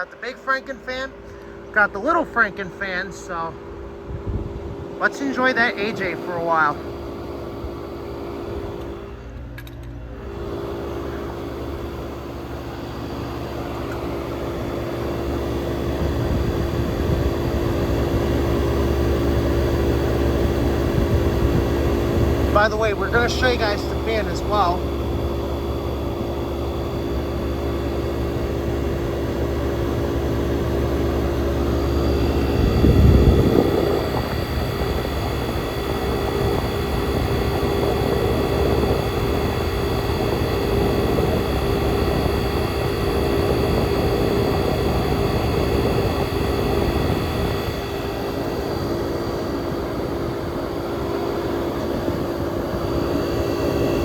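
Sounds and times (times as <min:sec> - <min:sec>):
air conditioner humming: 0:00.0 - 0:54.0.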